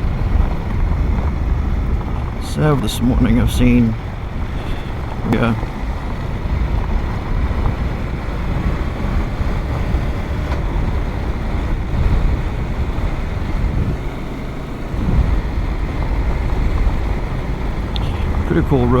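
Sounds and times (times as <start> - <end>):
motorcycle engine and road rumble: 0.0 - 19.0
wind buffeting microphone: 0.0 - 19.0.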